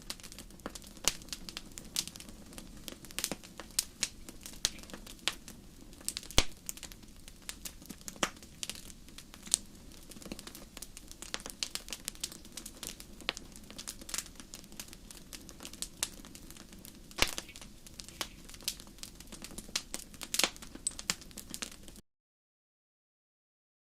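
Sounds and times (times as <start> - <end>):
low hiss of flame: 0.0 - 22.0
wood fire crackling: 0.0 - 22.0.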